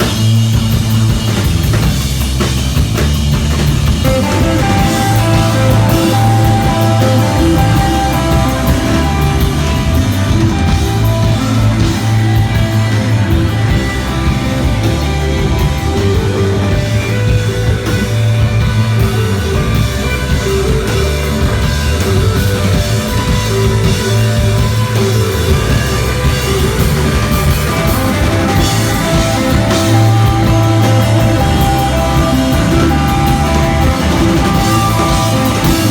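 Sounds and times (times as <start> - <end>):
drum cymbals keeping time: 0.0 - 35.9
sustained bass notes: 0.0 - 35.9
droning electric guitar: 3.8 - 35.9.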